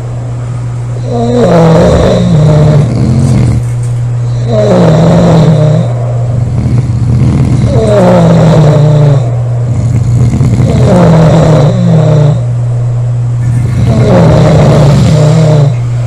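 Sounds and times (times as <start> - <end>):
steady low hum: 0.0 - 16.0
woman snoring loudly: 1.0 - 3.6, 4.2 - 12.5, 13.6 - 15.8.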